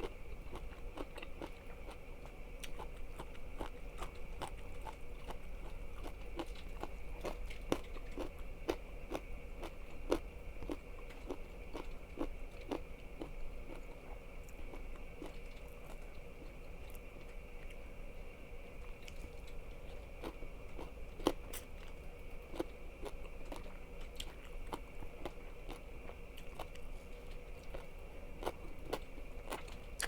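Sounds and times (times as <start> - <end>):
chewing crunchy food: 0.0 - 30.0.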